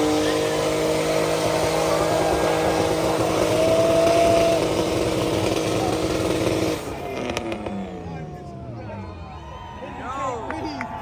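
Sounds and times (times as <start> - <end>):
car engine at high revs: 0.0 - 8.8.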